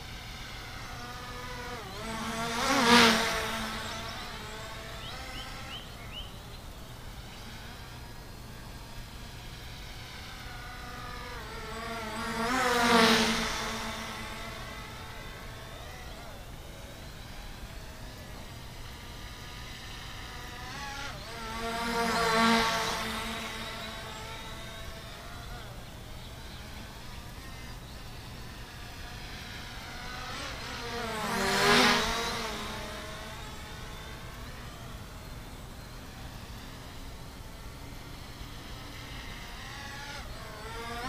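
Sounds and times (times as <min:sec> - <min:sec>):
drone buzzing past: 0:00.0 - 0:41.0
faint steady hum: 0:00.0 - 0:41.0.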